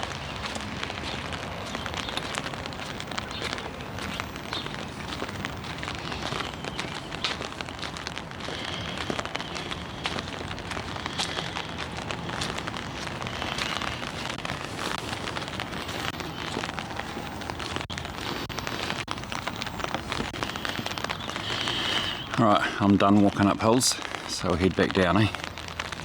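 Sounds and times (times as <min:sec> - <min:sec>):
rain on umbrella: 0:00.0 - 0:26.0.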